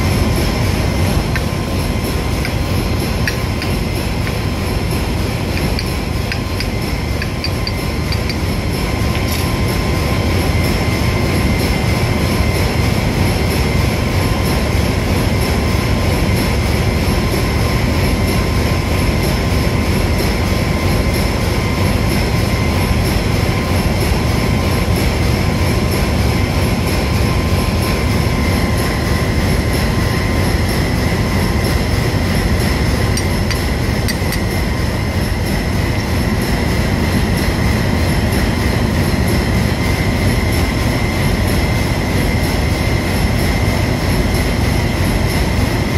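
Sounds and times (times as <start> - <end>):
ship engine room machinery drone: 0.0 - 45.9.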